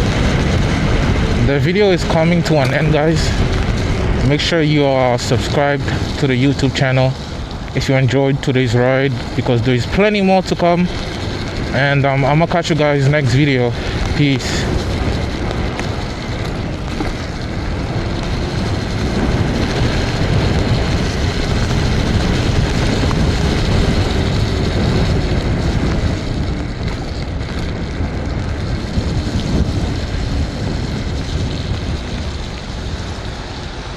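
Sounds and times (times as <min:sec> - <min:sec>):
road and tyre noise: 0:00.0 - 0:33.9
wind rushing over microphone: 0:00.0 - 0:33.9.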